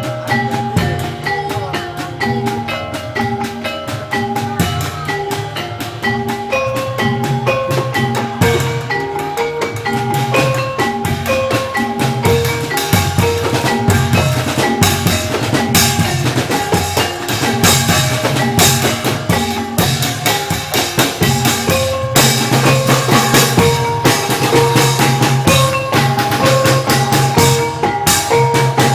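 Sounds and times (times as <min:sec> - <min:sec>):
drums beating a driving rhythm: 0:00.0 - 0:28.9
tuned percussion melody: 0:00.0 - 0:28.9.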